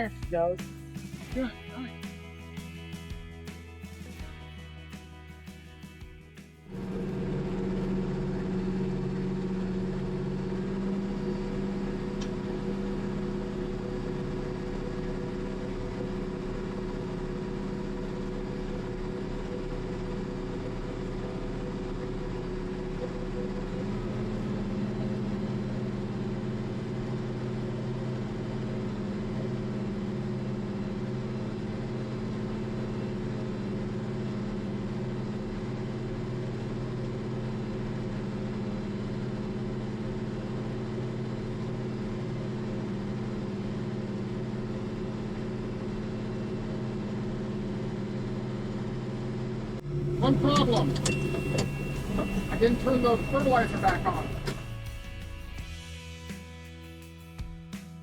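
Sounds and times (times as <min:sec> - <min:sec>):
tractor diesel engine under load: 0:06.7 - 0:55.6.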